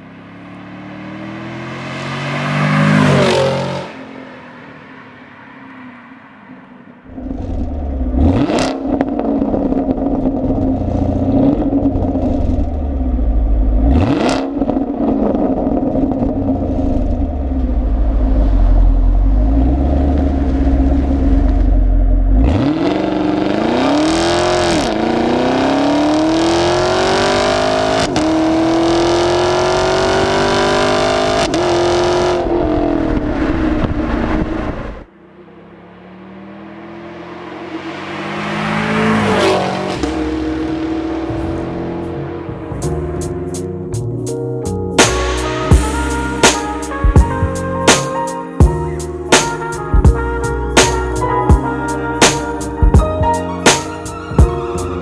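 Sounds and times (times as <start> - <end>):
car engine rumbling and accelerating: 0.0 - 55.0.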